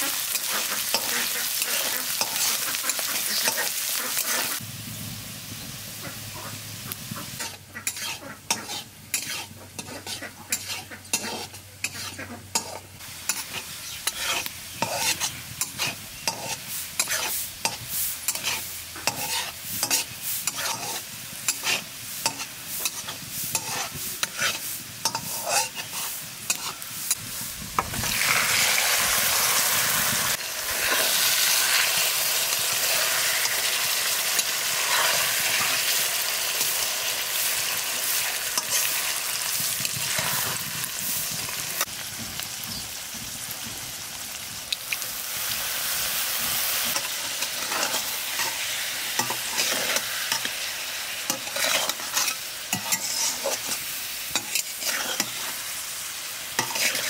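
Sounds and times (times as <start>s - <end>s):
spatula scraping pan: 0.0s - 4.6s, 7.1s - 28.6s, 30.6s - 41.9s, 46.5s - 55.7s, 56.6s - 57.0s
food sizzling in hot oil: 0.0s - 57.0s.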